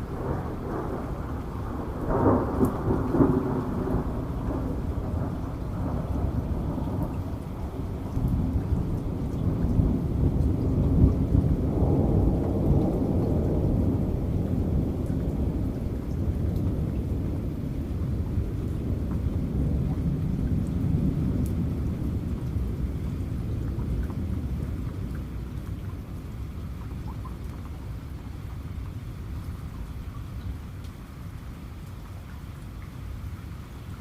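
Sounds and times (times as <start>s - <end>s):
low thunder rumble: 0.0s - 29.5s
rain falling: 0.0s - 34.0s.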